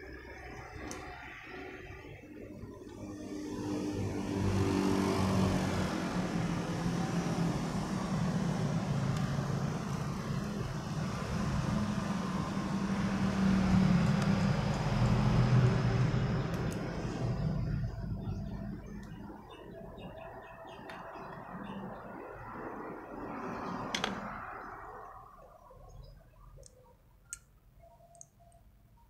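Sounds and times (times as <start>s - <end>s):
traffic engines humming: 0.0s - 29.0s.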